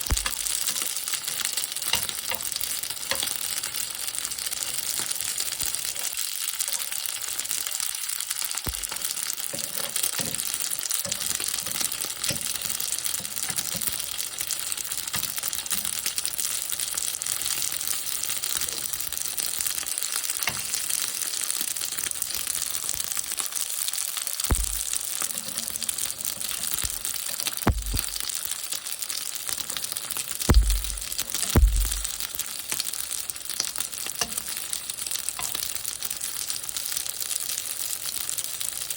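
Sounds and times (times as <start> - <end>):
dumplings sizzling in a pan: 0.0 - 38.9.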